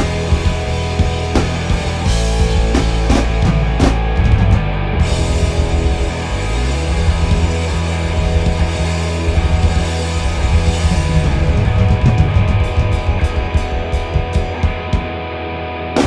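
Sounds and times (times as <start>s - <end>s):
drum kit with cymbals: 0.0s - 15.2s
bass guitar: 0.0s - 16.0s
electric guitar: 0.0s - 16.0s.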